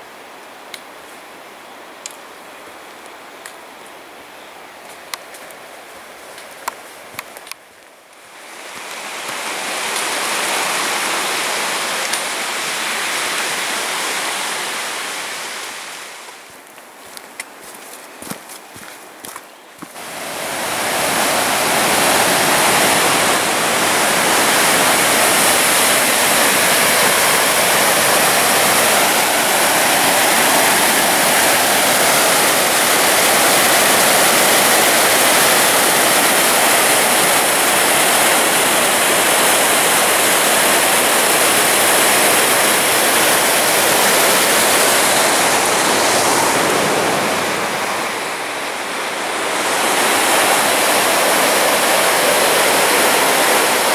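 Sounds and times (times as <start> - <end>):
creek rushing over boulders: 2.8 - 53.9.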